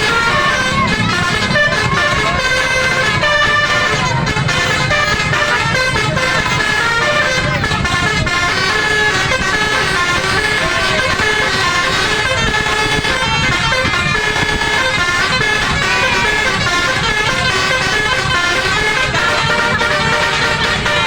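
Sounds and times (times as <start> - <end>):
musical bus air horn: 0.0 - 21.0.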